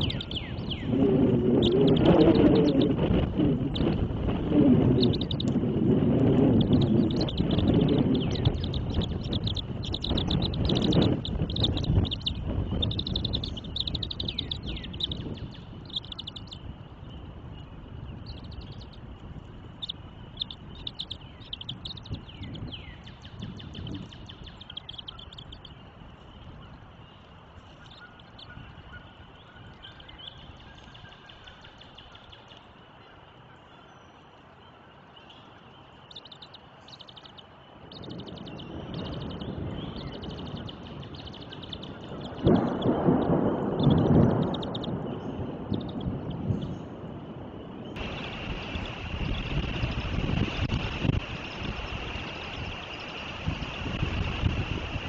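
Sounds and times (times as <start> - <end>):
falling bird calls: 0.0 - 5.7, 6.4 - 55.0
thunder rumble: 0.0 - 27.5, 37.7 - 55.0
birds chirping: 0.0 - 55.0.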